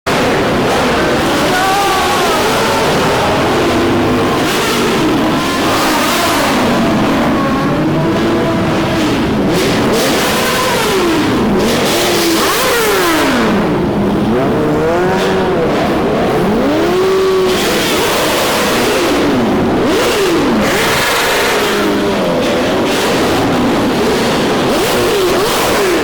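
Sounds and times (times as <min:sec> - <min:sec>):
car engines revving: 0:00.0 - 0:26.0
steady engine rumble: 0:00.0 - 0:26.0.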